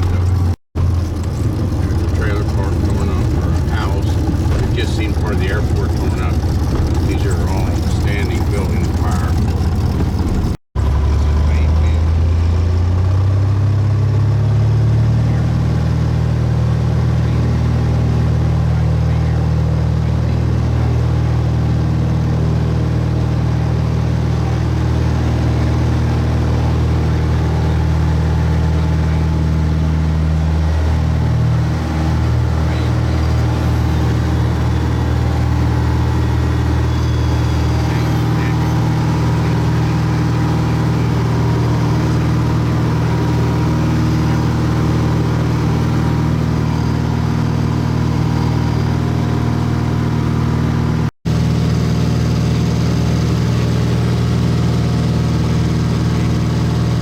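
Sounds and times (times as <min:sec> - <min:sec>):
small plane engine and propeller: 0:00.0 - 0:57.0.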